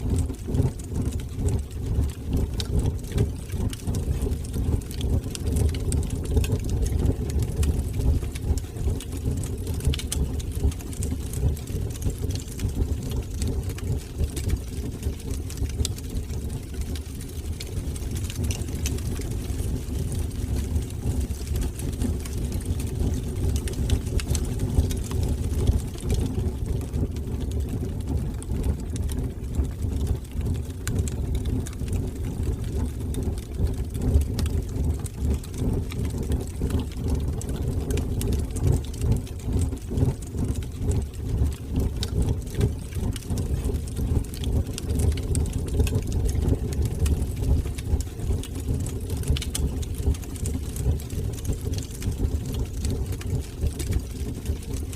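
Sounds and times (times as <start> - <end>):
fire roaring: 0.0 - 54.8
wood fire crackling and popping: 0.0 - 54.9.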